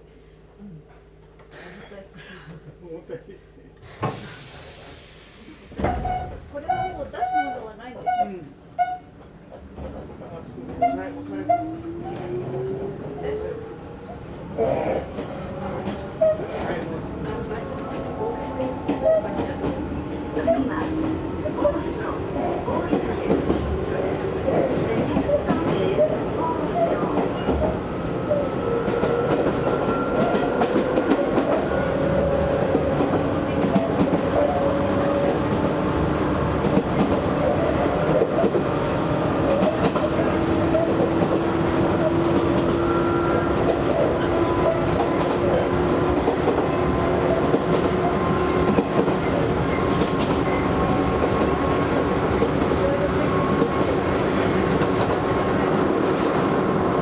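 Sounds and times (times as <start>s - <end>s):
train wheels on rail: 4.0s - 57.0s
clickety-clack over rail joints: 8.4s - 13.2s, 14.1s - 56.5s.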